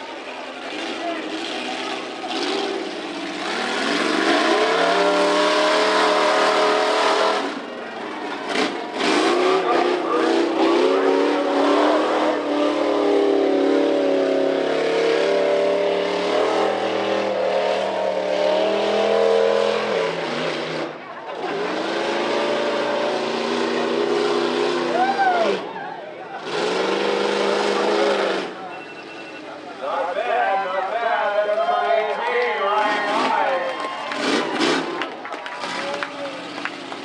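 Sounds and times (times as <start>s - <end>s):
truck engine revving: 0.0s - 30.2s, 31.3s - 37.0s.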